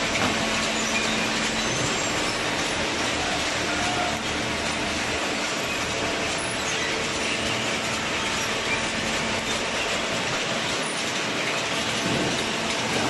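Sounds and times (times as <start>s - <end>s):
conveyor mechanical rattle: 0.0s - 13.0s.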